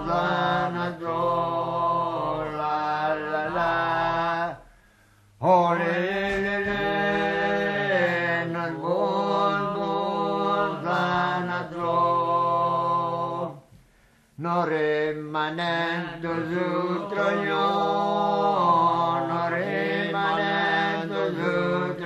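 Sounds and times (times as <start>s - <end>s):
voices singing folk chant: 0.0s - 4.8s, 5.4s - 13.7s, 14.4s - 22.0s.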